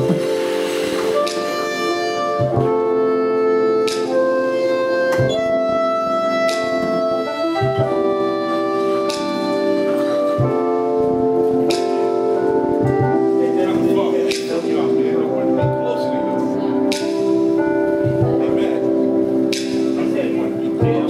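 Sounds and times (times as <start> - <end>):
sustained instrumental chords: 0.0 - 21.0.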